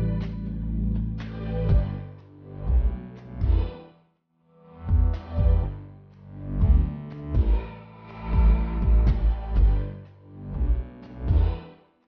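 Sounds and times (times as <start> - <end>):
music with strong bass beat: 0.0 - 3.8, 4.8 - 11.7.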